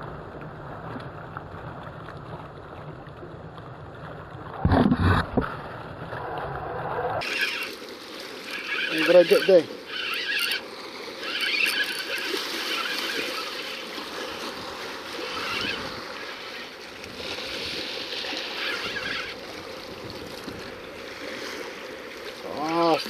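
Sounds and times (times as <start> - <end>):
sea water splashing over rocks: 0.0 - 23.0.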